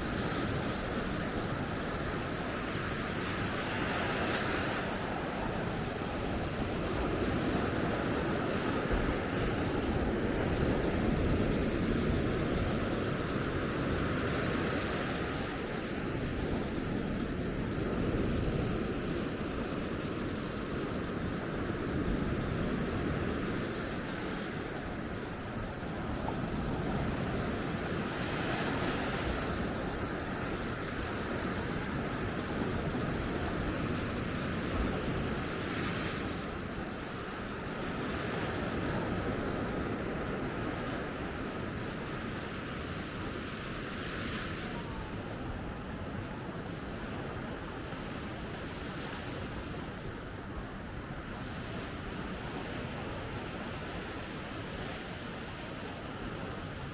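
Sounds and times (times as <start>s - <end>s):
surf washing onto a beach: 0.0s - 56.9s
wind on the microphone: 0.0s - 56.9s.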